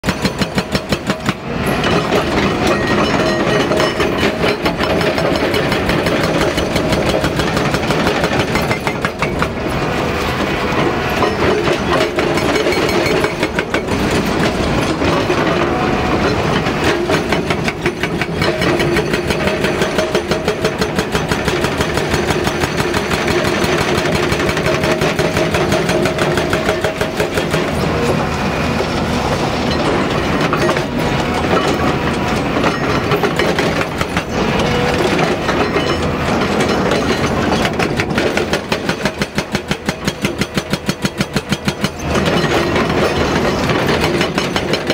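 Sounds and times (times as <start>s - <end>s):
hydraulic breaker hammering: 0.0s - 9.7s, 10.8s - 44.9s.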